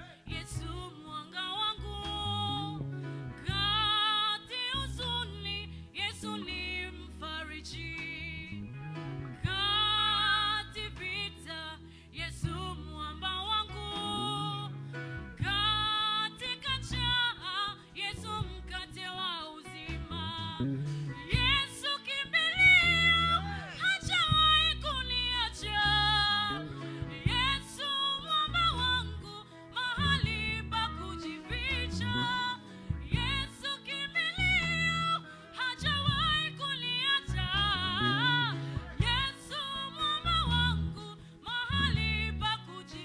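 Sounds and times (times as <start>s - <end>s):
gospel praise band music: 0.0s - 43.0s.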